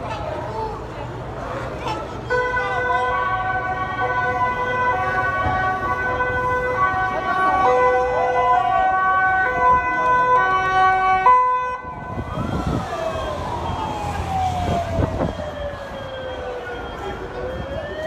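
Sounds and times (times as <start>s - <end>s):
two-tone sirens: 2.3s - 18.0s
siren gliding up and down: 2.8s - 18.0s.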